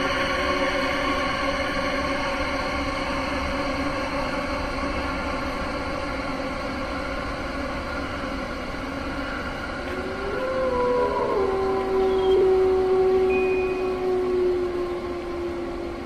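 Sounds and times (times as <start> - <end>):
eerie horror drone: 0.0 - 16.0.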